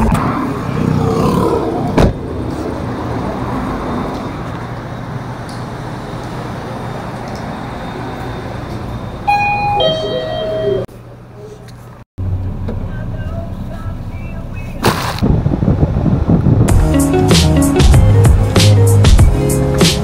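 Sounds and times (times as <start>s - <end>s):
street traffic noise: 0.0s - 20.0s.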